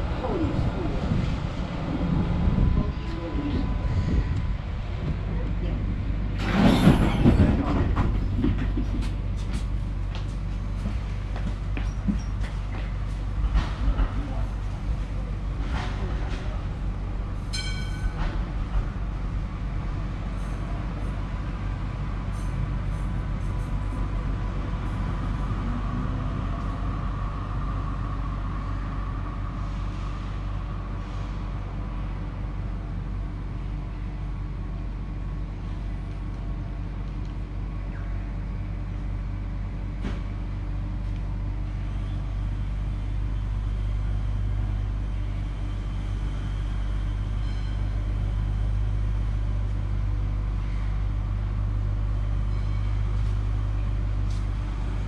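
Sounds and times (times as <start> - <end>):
tram rumbling from inside: 0.0 - 55.0.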